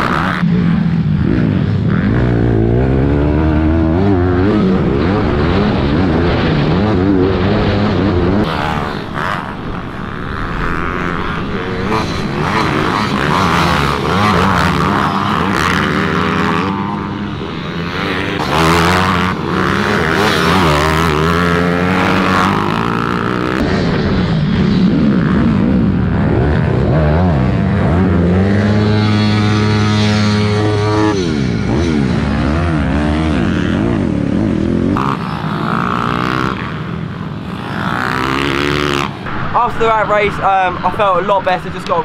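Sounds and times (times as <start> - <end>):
minibike engines revving: 0.0 - 42.0.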